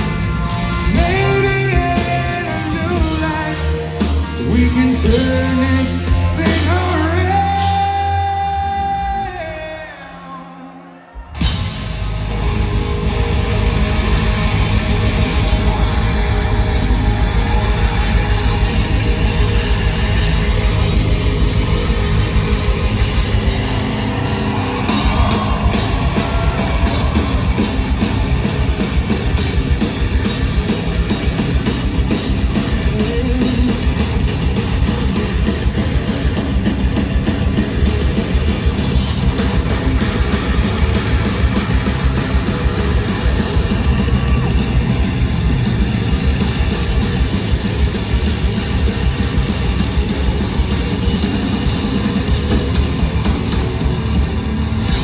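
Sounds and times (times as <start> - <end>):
pounding drum kit: 0.0 - 9.6, 11.3 - 55.0
bass guitar: 0.0 - 10.3, 11.2 - 55.0
distorted electric guitars: 0.0 - 55.0.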